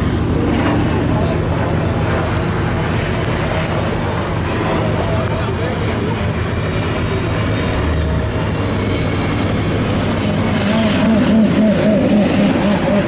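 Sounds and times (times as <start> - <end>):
rain and tyre spray: 0.0 - 11.7.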